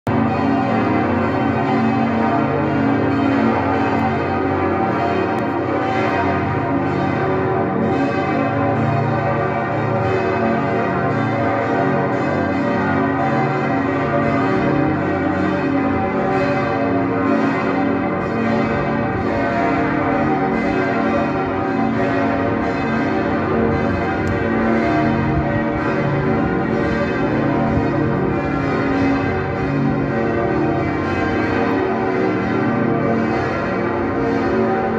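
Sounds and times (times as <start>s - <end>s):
church bells pealing: 0.1s - 34.9s.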